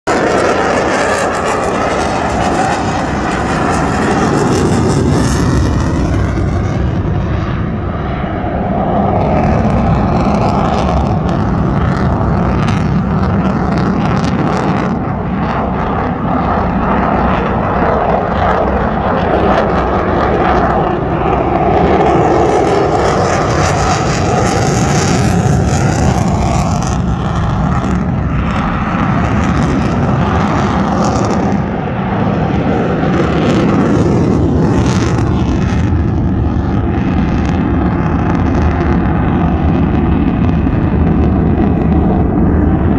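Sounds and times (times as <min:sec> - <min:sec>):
aircraft engine noise: 0:00.0 - 0:42.9.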